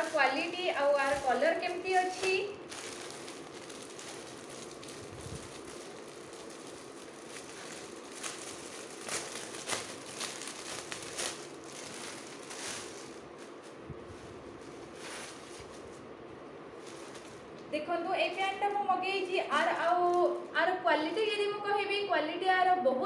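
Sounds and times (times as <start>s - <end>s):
plastic bag crinkling: 0.0s - 21.3s.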